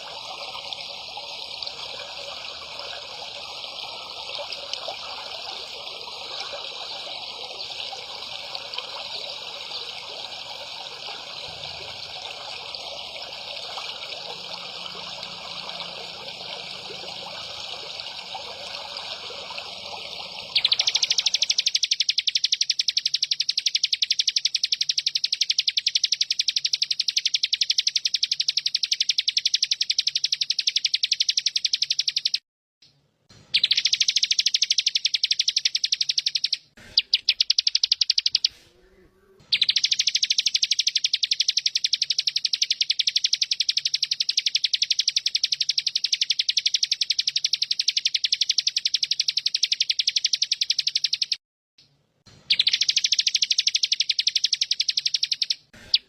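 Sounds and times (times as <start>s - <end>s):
songbird rapid trill: 0.0s - 32.4s, 33.5s - 38.6s, 39.5s - 51.4s, 52.5s - 56.0s.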